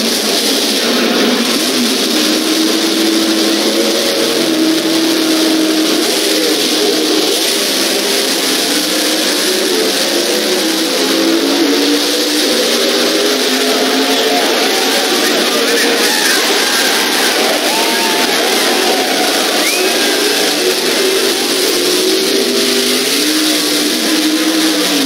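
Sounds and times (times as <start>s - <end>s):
drag racing car engines revving: 0.0s - 25.0s.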